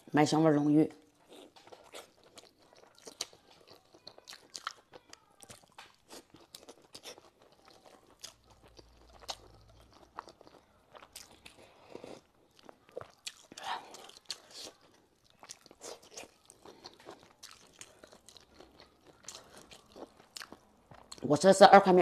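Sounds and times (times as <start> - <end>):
person chewing noodles: 1.1 - 21.2.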